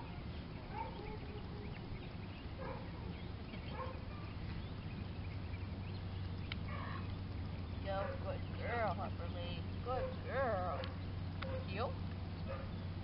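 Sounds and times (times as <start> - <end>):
bird chirps: 0.0 - 13.0
steady low hum: 0.0 - 13.0.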